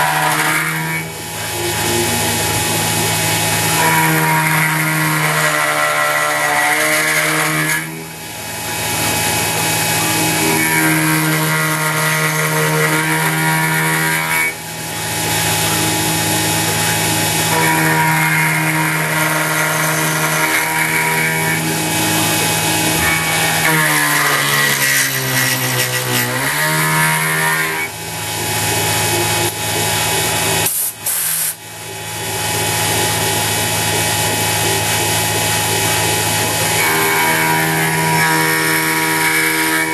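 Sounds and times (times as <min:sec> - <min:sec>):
axis motors humming: 0:00.0 - 0:39.9
mill spindle whine: 0:00.0 - 0:39.9.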